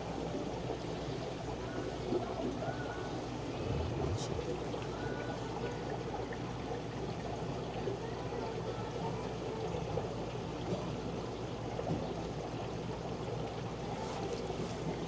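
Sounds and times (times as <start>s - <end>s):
running and trickling water: 0.0s - 15.0s.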